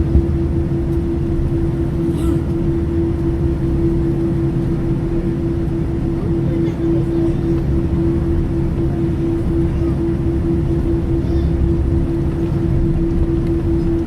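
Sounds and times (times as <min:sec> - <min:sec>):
constant hum: 0:00.0 - 0:14.0.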